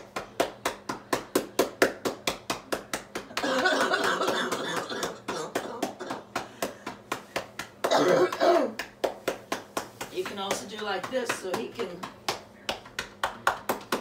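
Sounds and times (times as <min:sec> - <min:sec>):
cupped hands clapping on back: 0:00.0 - 0:14.0.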